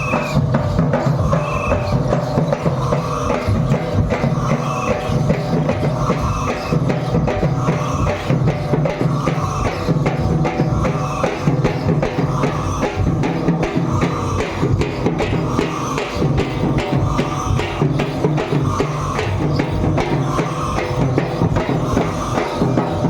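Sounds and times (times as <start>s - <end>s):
drum-driven dance music: 0.0s - 23.0s.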